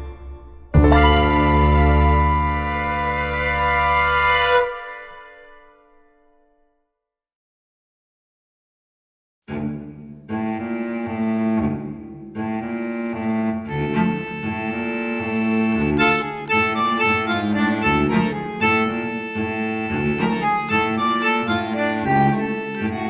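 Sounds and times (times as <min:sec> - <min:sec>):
instrumental tango music: 0:00.0 - 0:05.7, 0:09.8 - 0:23.0.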